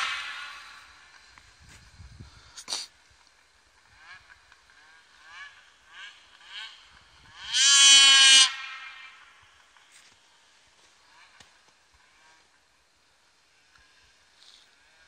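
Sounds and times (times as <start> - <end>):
distant snowmobile revving: 0.0 - 15.0.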